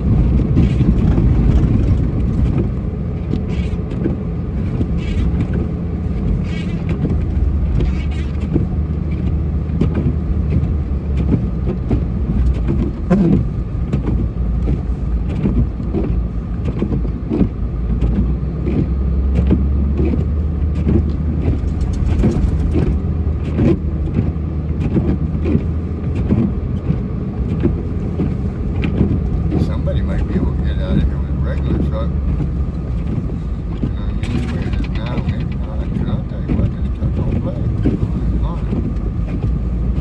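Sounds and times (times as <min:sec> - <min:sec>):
clunks and rattles: 0:00.0 - 0:40.0
truck engine and road rumble: 0:00.0 - 0:40.0.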